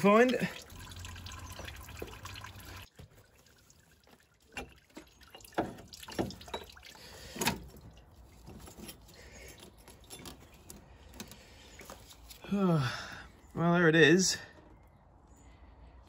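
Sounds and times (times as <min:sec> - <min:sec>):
coolant trickling: 0:00.0 - 0:13.2.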